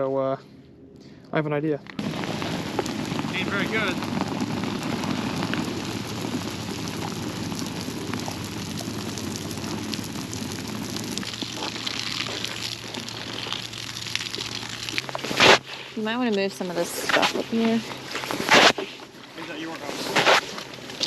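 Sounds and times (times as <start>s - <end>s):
fire crackling: 1.9s - 21.0s
water hissing on hot coals: 2.0s - 21.0s.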